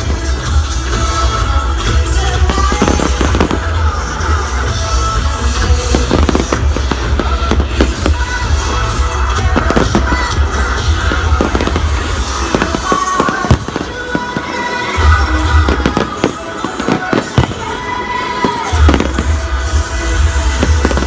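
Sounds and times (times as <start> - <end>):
fireworks bangs and crackles: 0.0 - 21.0
loud music: 0.0 - 21.0.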